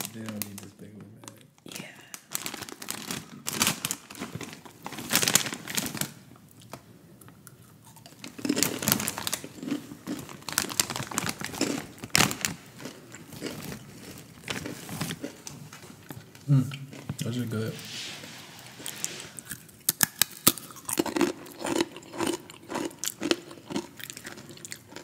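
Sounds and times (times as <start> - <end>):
snack bag crinkling: 2.1 - 6.8, 7.8 - 17.5, 18.8 - 25.0.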